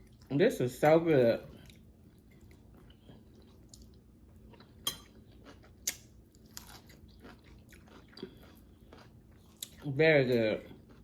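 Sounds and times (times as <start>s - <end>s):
chewing crispy chicken: 1.5s - 11.0s.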